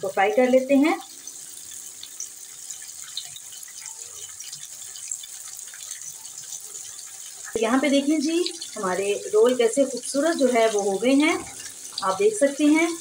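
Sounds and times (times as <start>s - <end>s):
deep-frying sizzle and crackle: 0.0s - 13.0s.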